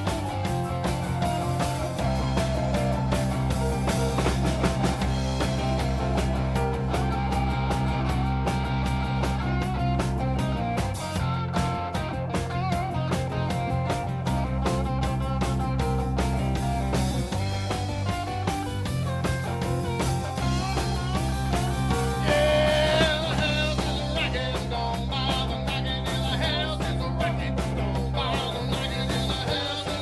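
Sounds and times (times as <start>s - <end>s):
live blues-rock band: 0.0s - 30.0s.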